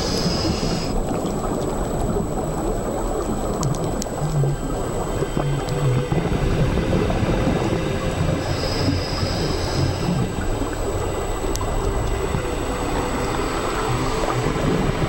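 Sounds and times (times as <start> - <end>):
underwater rumble and hiss: 0.0 - 15.0.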